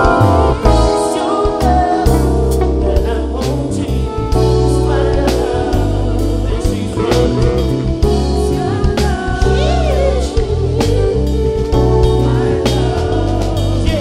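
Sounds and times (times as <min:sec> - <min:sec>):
electric guitar: 0:00.0 - 0:14.0
live band music: 0:00.0 - 0:14.0
person singing: 0:00.0 - 0:14.0.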